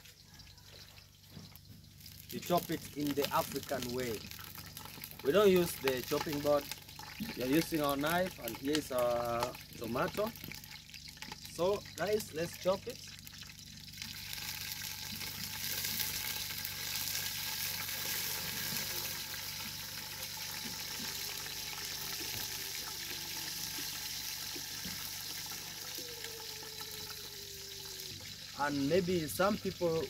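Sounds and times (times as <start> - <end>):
onions sizzling in a pot: 0.0 - 30.0.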